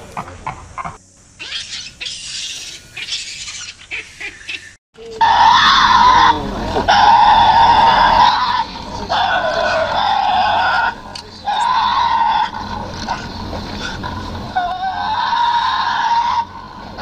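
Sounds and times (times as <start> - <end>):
animal screeching harshly: 1.4 - 17.0.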